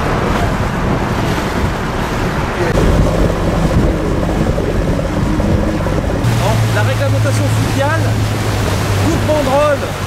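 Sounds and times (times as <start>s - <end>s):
boat motor: 0.0s - 10.0s
water: 0.0s - 10.0s
wind buffeting microphone: 0.0s - 10.0s.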